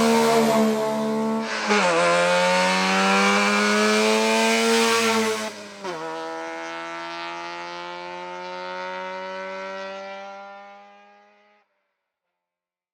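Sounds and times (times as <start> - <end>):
rally car engine at full throttle: 0.0 - 11.6.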